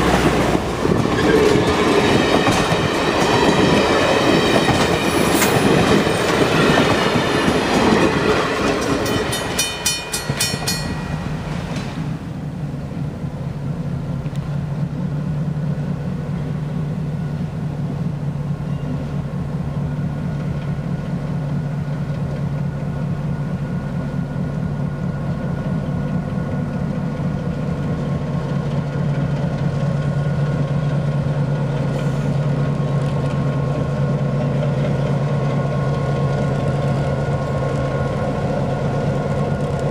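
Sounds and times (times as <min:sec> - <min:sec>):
railroad car wheels clattering: 0:00.0 - 0:16.9, 0:17.9 - 0:39.9
diesel locomotive engine idling: 0:00.0 - 0:39.9.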